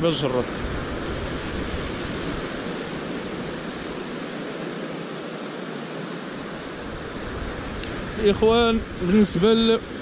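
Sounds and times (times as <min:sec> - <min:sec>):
ocean surf washing: 0:00.0 - 0:10.0.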